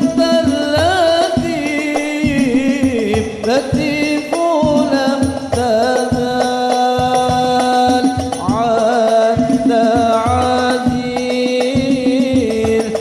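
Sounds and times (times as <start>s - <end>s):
percussion strokes: 0.0s - 13.0s
person singing devotional song: 0.0s - 13.0s.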